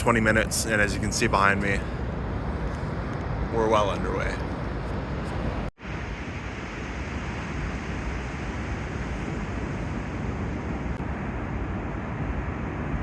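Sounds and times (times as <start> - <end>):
wind and surf rushing: 0.0 - 13.0
wind rumble on microphone: 0.0 - 13.0.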